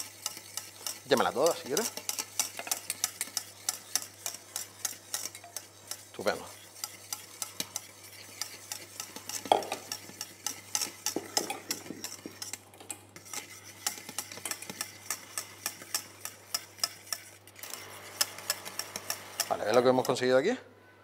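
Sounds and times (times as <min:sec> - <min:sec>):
whisk clinking against metal pot: 0:00.0 - 0:17.5, 0:18.1 - 0:20.3.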